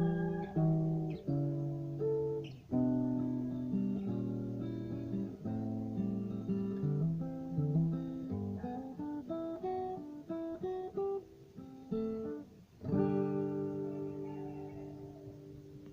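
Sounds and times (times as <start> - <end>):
acoustic guitar playing: 0.0 - 15.9.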